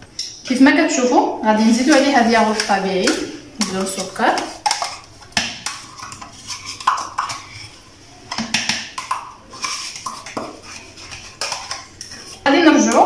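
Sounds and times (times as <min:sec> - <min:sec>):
spoon scraping plastic cup: 0:01.6 - 0:13.0.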